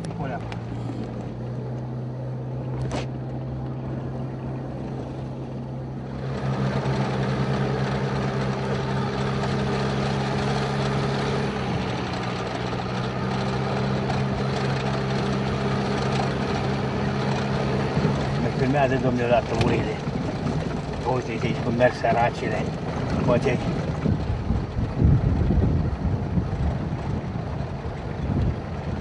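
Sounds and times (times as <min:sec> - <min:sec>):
road and wind noise: 0:00.0 - 0:29.0
vehicle engine running: 0:00.0 - 0:29.0.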